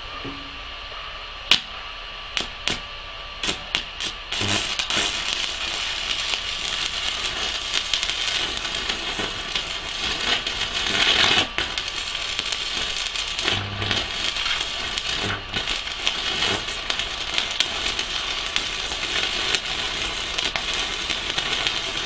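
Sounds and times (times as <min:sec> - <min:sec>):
welding arc crackling hiss: 0:01.4 - 0:22.0
electrode striking steel cracks: 0:01.5 - 0:01.7, 0:03.4 - 0:22.0.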